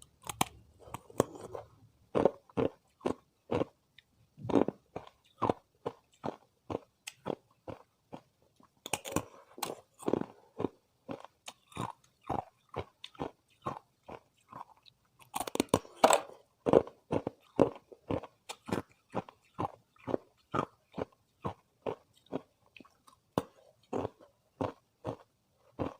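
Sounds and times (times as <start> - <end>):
ice being chewed: 0.2 - 3.8, 4.4 - 25.9.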